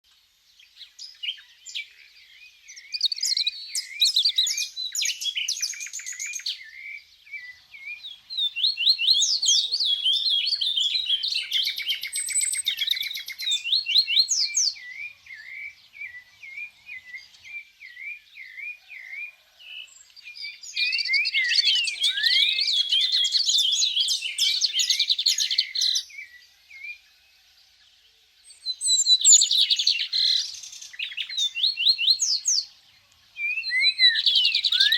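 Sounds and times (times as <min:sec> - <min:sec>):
songbird trilling and chirping: 0:00.6 - 0:27.2, 0:27.8 - 0:34.9.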